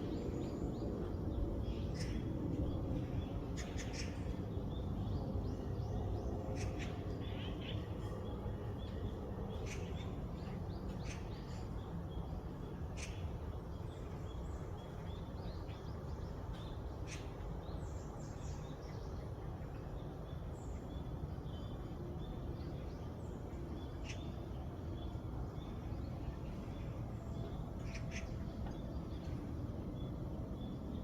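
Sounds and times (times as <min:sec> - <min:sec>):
low background rumble: 0:00.0 - 0:31.0
small birds chirping: 0:00.0 - 0:31.0.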